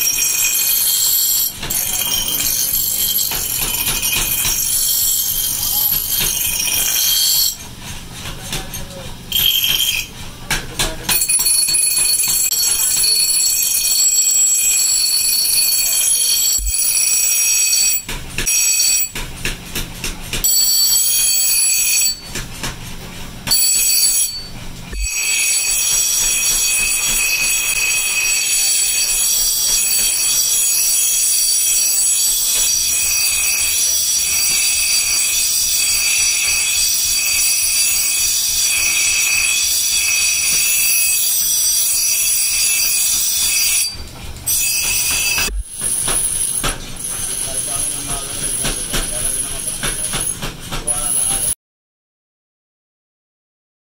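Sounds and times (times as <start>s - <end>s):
grinding wheel screeching on steel: 0.0s - 19.2s, 20.4s - 22.5s, 23.2s - 51.5s.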